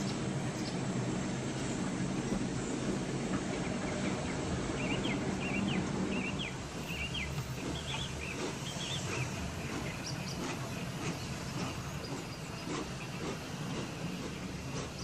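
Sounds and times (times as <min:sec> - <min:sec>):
birds chirping: 0:00.0 - 0:15.0
train rumbling past: 0:00.0 - 0:15.0.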